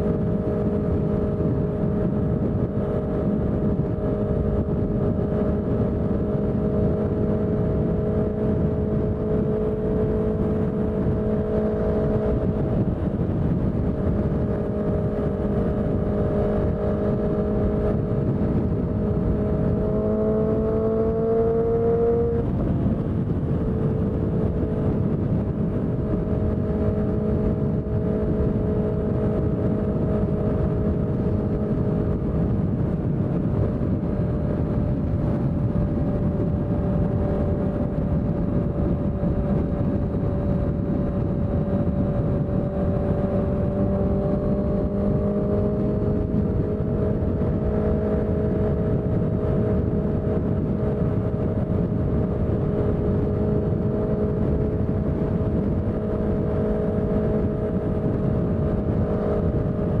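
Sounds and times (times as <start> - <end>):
motorcycle engine running steadily: 0.0 - 60.0.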